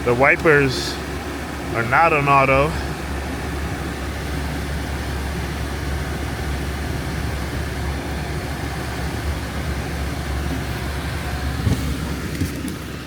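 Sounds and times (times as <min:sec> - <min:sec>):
car climate fans rushing: 0:00.0 - 0:13.0
constant low hum: 0:00.0 - 0:13.0.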